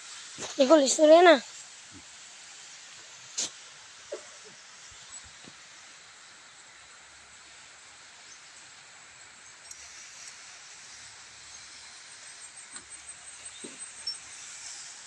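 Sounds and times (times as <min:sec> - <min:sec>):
faint outdoor hiss: 0:00.0 - 0:15.0
rustles: 0:00.0 - 0:15.0.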